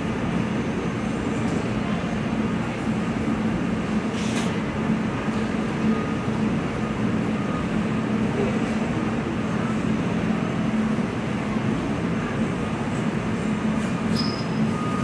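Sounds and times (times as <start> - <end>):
low rumble of vehicles: 0.0 - 15.0.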